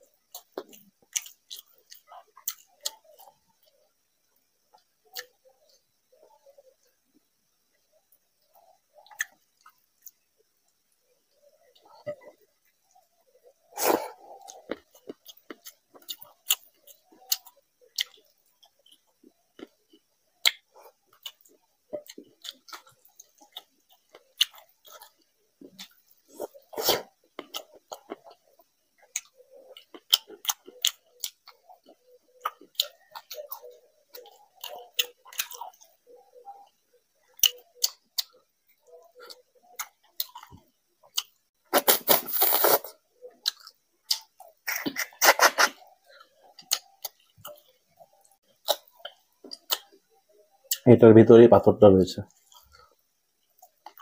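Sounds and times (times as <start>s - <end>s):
chewing and mouth clicks: 0.0s - 3.9s, 4.7s - 7.0s, 8.4s - 10.8s, 13.8s - 50.0s, 52.3s - 54.0s.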